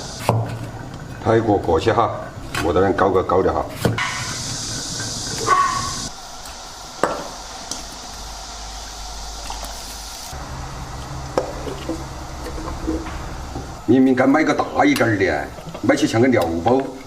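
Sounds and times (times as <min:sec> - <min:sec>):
stove hissing: 0:00.0 - 0:17.0.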